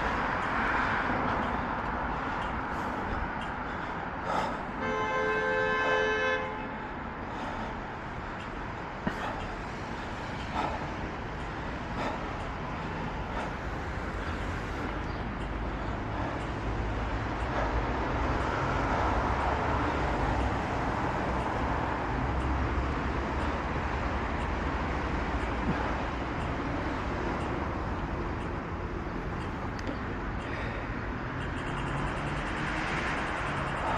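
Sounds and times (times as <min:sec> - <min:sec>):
vehicle passing: 0:00.0 - 0:04.8, 0:06.6 - 0:33.9
road traffic noise: 0:00.0 - 0:33.9.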